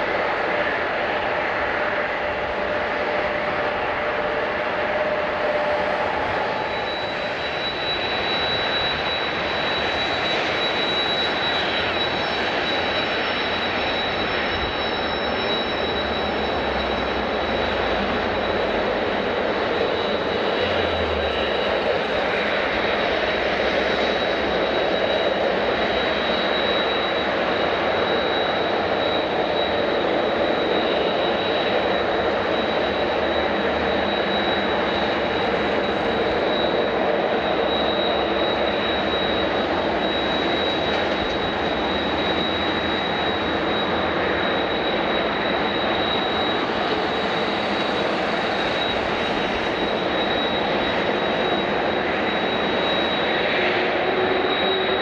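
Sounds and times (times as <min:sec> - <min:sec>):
airliner engines running: 0:00.0 - 0:55.0.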